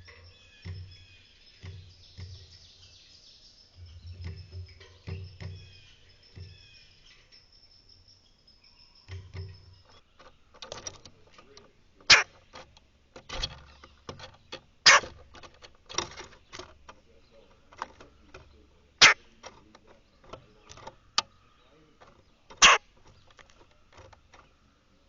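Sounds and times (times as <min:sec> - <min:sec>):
sharp taps and knocks: 0:00.0 - 0:00.9, 0:01.5 - 0:02.6, 0:03.9 - 0:06.6, 0:09.1 - 0:24.6
songbirds calling: 0:00.0 - 0:25.0.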